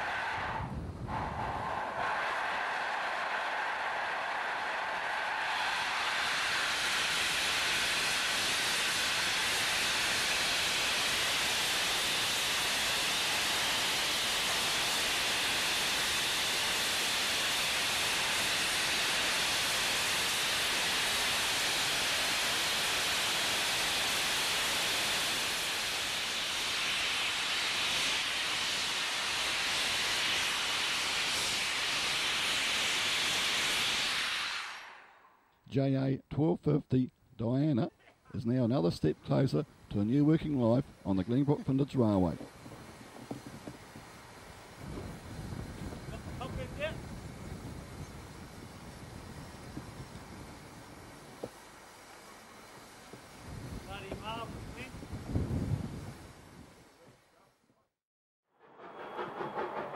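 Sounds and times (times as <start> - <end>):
steam locomotive hissing: 0.0 - 35.2, 38.3 - 57.6, 58.6 - 59.9.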